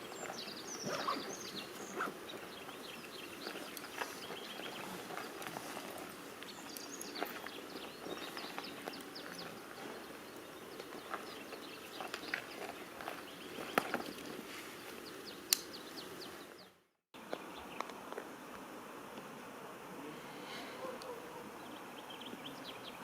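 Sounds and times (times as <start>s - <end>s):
small birds chirping: 0.0s - 18.6s, 20.5s - 23.0s.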